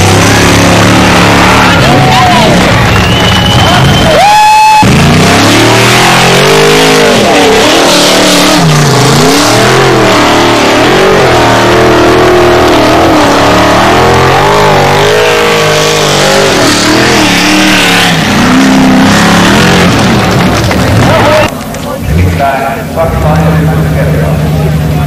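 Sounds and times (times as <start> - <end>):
car engine revving hard: 0.0 - 21.5.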